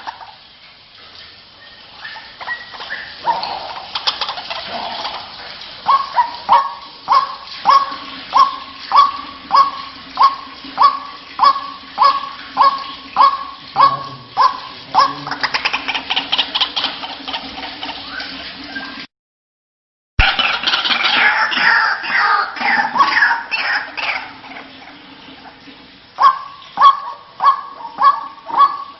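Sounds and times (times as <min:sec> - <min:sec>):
waterhen calling: 0:00.0 - 0:19.1, 0:20.2 - 0:28.9.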